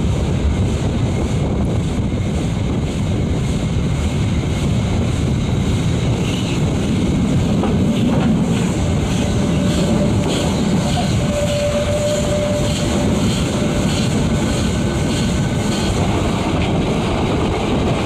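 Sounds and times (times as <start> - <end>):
train wheels rumbling on rails: 0.0 - 18.0
wind buffeting microphone: 0.0 - 18.0.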